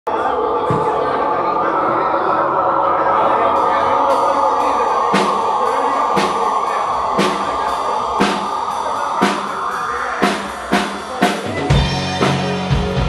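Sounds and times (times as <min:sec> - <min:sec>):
sustained electric guitar: 0:00.2 - 0:13.0.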